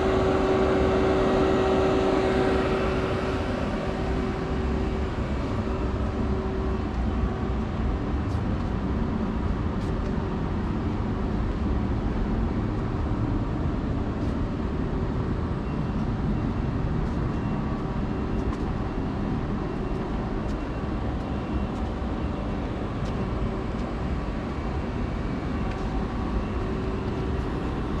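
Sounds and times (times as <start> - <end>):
faint high whine: 0.0 - 28.0
machinery low hum: 0.0 - 28.0.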